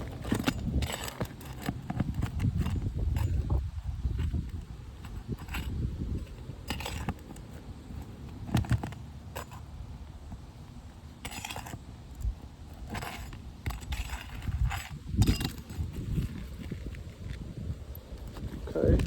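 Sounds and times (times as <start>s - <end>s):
tool scraping roof shingles: 0.0s - 17.2s.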